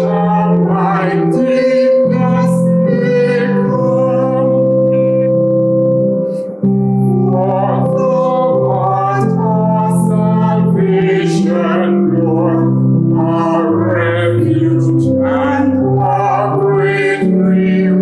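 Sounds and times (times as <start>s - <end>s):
person singing: 0.0s - 18.0s
sustained instrumental accompaniment: 0.0s - 18.0s.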